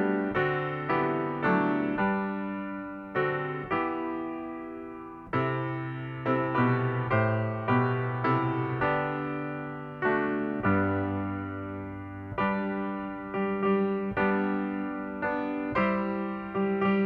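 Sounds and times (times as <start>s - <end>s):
piano playing slow chords: 0.0s - 17.0s.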